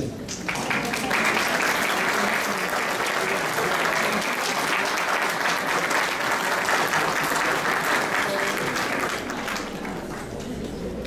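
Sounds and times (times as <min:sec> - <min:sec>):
audience clapping: 0:00.0 - 0:10.8.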